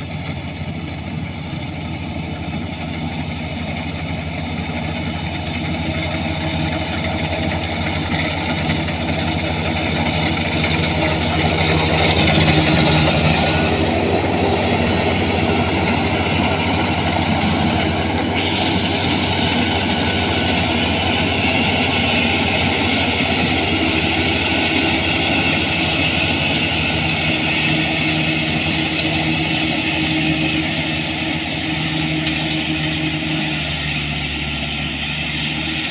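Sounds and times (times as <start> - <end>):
combine harvester diesel engine: 0.0 - 35.9.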